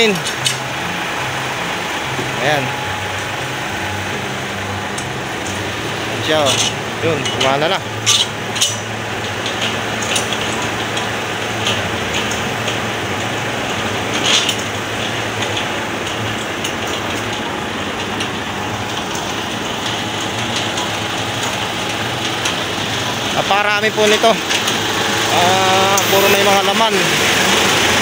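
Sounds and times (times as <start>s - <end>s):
refrigeration fan rushing: 0.0s - 28.0s.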